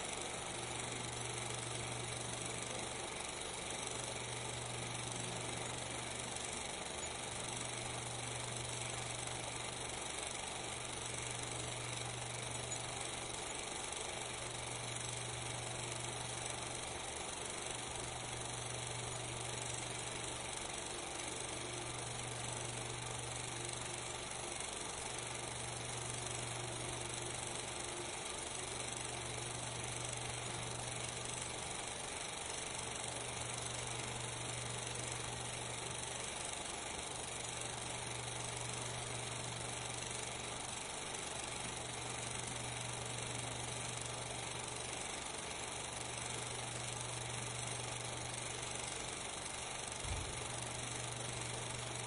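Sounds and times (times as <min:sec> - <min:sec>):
steady hiss with low hum: 0:00.0 - 0:52.0.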